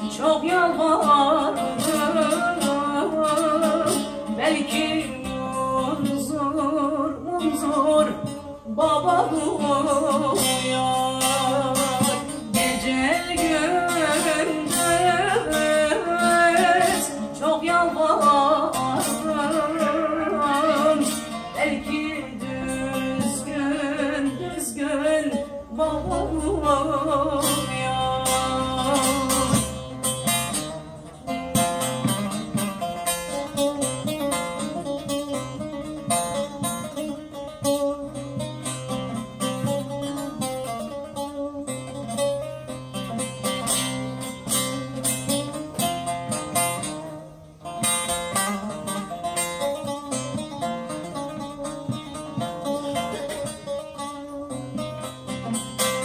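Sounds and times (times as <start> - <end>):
long-necked lute played with a pick: 0.0 - 56.0
woman singing a folk song: 0.0 - 56.0.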